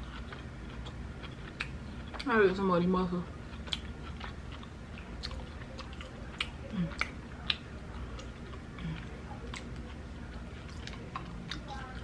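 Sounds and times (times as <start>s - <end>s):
wet chewing smacks and clicks: 0.0s - 2.4s, 3.5s - 12.0s.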